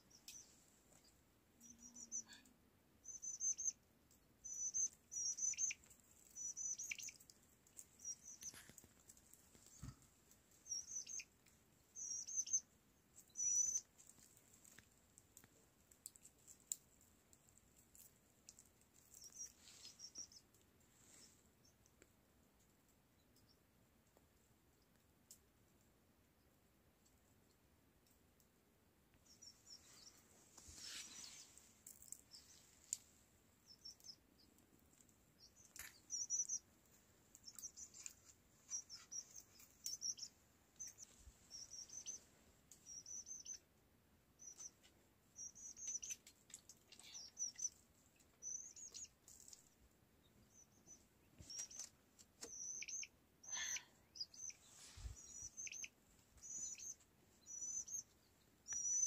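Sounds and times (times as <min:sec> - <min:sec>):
small bird chirping: 0:00.0 - 0:16.8, 0:17.5 - 0:22.0, 0:29.2 - 0:59.0.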